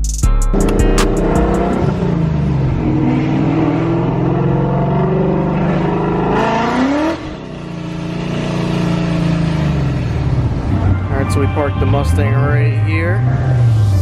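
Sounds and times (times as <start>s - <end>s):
car engine revving: 0.5s - 14.0s.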